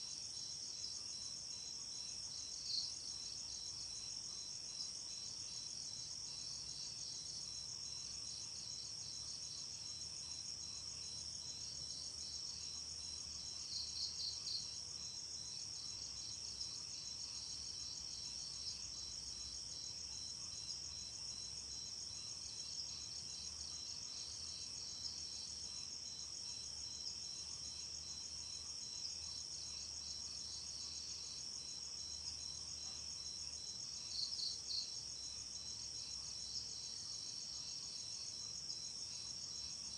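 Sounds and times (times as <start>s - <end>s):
crickets trilling: 0.3s - 39.9s.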